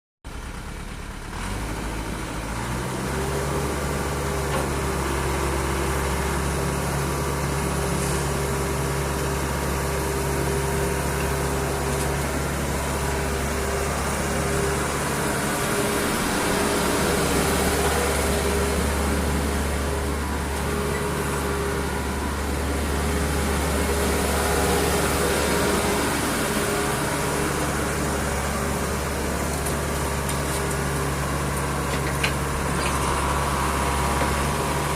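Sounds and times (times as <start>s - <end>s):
excavator diesel engine running: 0.3s - 34.9s.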